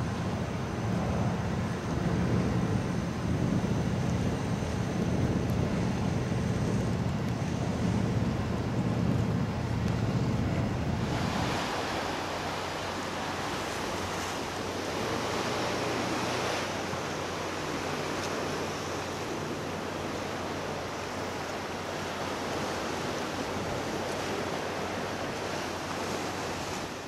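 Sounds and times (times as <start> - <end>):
sea waves splashing: 0.0 - 27.0
wind buffeting microphone: 0.0 - 27.0.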